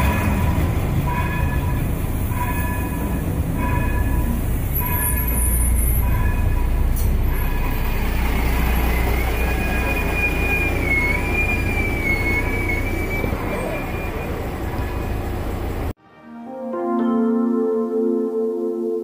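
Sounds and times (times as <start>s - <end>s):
high wavering squeal: 0.0s - 15.8s
railcar low rumble: 0.0s - 16.0s.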